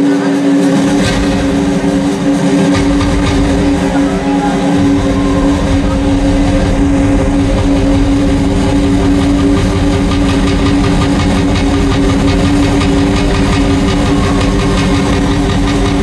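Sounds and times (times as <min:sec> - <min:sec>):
low droning chord: 0:00.0 - 0:16.0
rock drum kit playing: 0:00.8 - 0:16.0.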